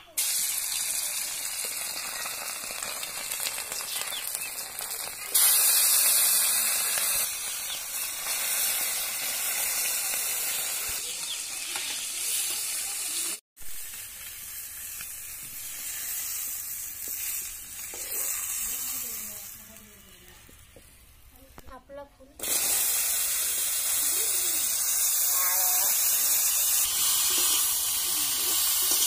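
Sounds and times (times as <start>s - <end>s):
fish frying in hot oil: 0.2s - 19.8s, 22.4s - 29.0s.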